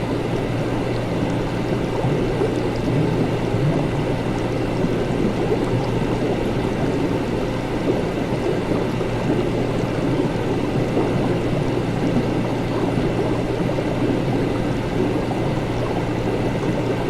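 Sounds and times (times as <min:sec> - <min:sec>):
low equipment hum: 0:00.0 - 0:17.0
watery bubbling: 0:00.0 - 0:17.0.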